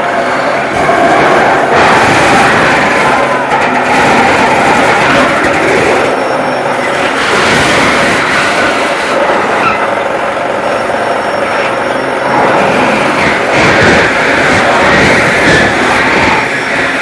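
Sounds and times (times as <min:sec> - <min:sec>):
metal-spinning machine din: 0:00.0 - 0:17.0.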